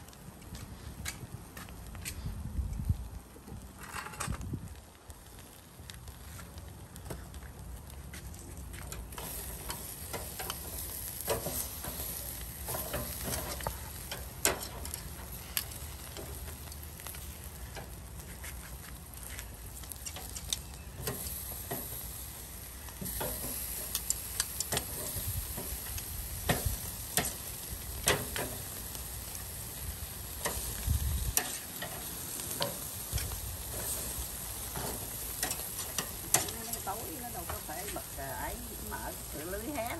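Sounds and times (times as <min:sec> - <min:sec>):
fat crackling on hot coals: 0:00.0 - 0:39.9
meat sizzling on a grill: 0:02.9 - 0:39.9.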